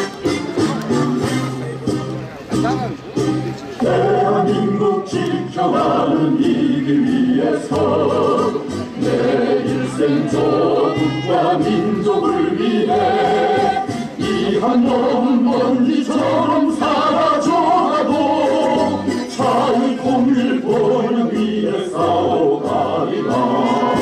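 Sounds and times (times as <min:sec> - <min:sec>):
group singing a hymn: 0:03.8 - 0:24.0.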